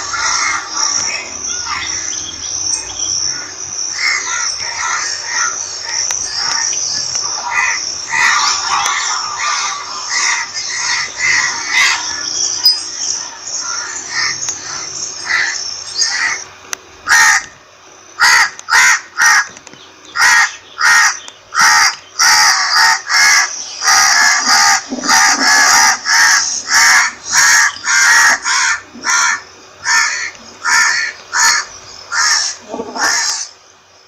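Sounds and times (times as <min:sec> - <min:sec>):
crows cawing: 0:00.0 - 0:02.2, 0:03.2 - 0:12.4, 0:13.6 - 0:17.6, 0:18.2 - 0:33.6.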